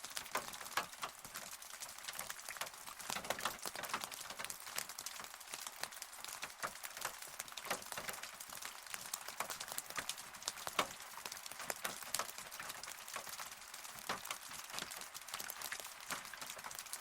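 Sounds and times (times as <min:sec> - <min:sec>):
rain falling: 0:00.0 - 0:17.0
raindrops tapping on a surface: 0:00.0 - 0:17.0.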